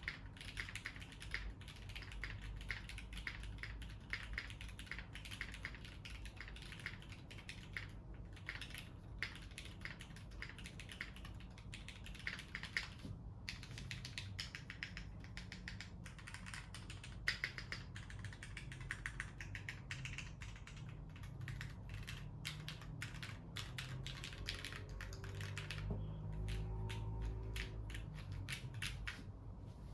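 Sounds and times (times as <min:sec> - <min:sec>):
mechanical keyboard typing: 0:00.0 - 0:29.2.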